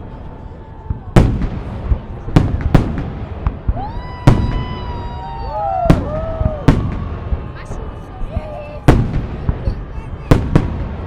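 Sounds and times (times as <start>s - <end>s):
fireworks booming: 0.9s - 11.0s
fireworks popping: 1.2s - 4.9s, 5.8s - 11.0s.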